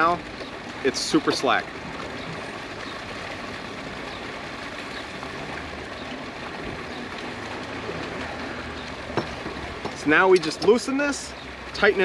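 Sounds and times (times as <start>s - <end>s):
harbour water moving: 0.0s - 12.0s.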